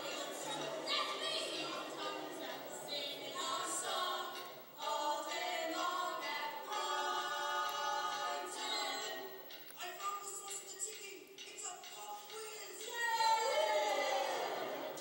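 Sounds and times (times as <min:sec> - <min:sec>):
voices singing a cappella: 0:00.0 - 0:15.0.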